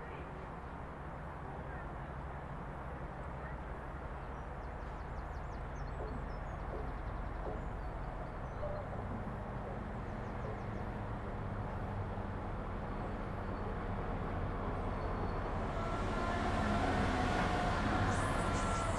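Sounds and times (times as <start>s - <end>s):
train engine rumble and hum: 0.0s - 18.9s.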